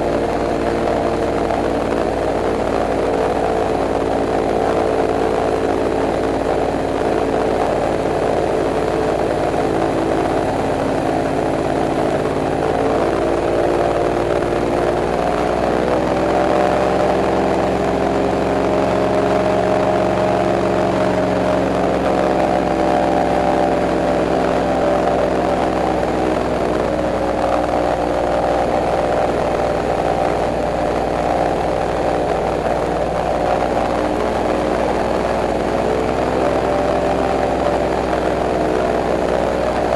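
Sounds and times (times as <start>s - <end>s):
airboat engine and propeller: 0.0s - 39.9s.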